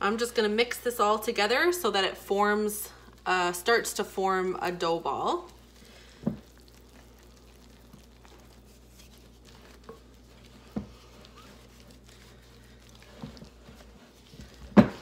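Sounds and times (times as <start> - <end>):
wooden spoon stirring dough: 0.0 - 15.0.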